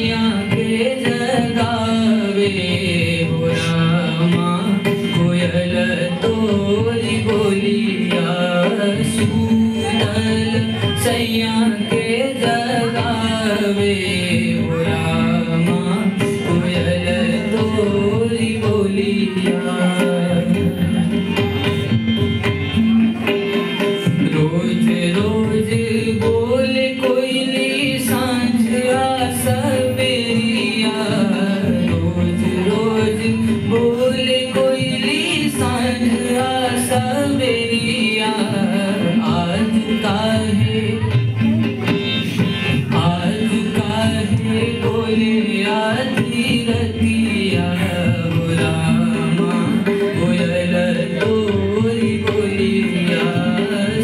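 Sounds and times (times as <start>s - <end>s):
man singing folk song: 0.0s - 20.8s, 24.2s - 41.2s, 42.9s - 54.0s
harmonium: 0.0s - 54.0s.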